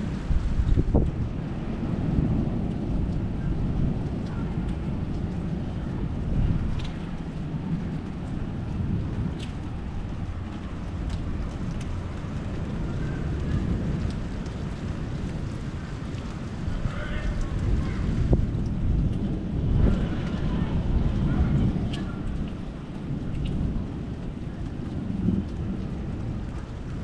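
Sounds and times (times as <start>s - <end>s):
low thunder rumble: 0.0s - 27.0s.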